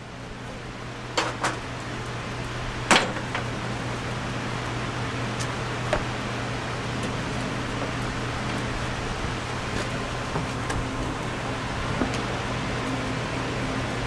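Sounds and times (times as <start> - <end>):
steady low hum: 0.0 - 14.0
welding arc hissing and crackling: 0.0 - 14.0.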